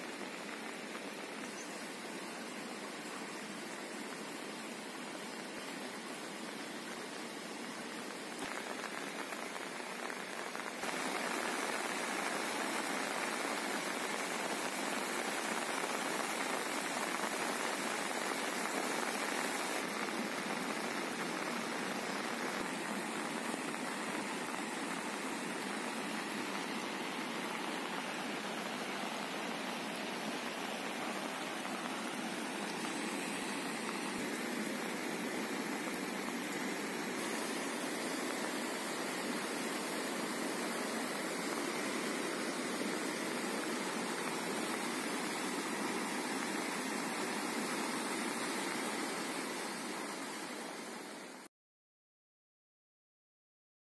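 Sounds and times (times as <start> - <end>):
rain hissing: 0.0 - 51.5
flood river rushing: 0.1 - 51.4.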